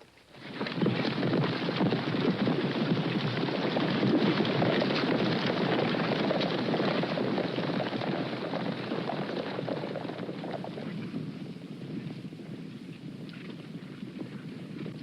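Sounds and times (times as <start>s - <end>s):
horses galloping: 0.0s - 15.0s.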